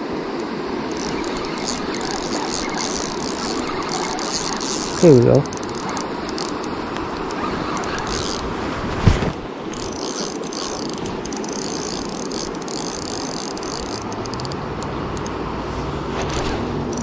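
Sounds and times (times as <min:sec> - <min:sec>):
river water rushing: 0:00.0 - 0:17.0
fishing reel clicking and whirring: 0:00.3 - 0:08.6, 0:09.7 - 0:15.4, 0:16.2 - 0:17.0.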